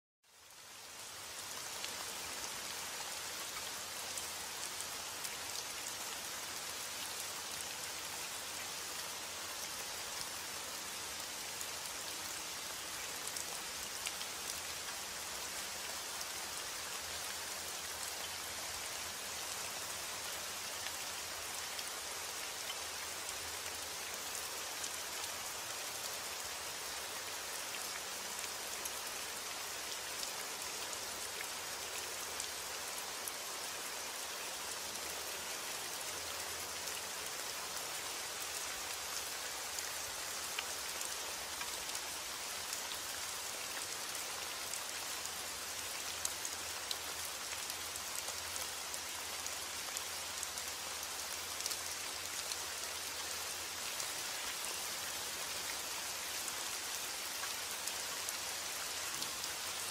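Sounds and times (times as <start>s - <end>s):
heavy rain: 0.2s - 59.9s.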